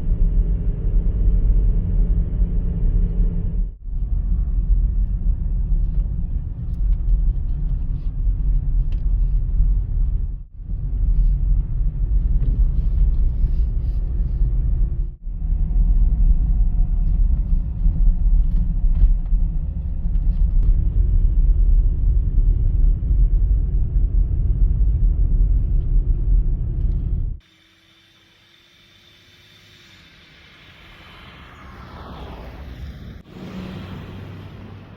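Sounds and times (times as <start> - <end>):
car engine and tyre rumble: 0.0 - 27.5, 28.7 - 34.9.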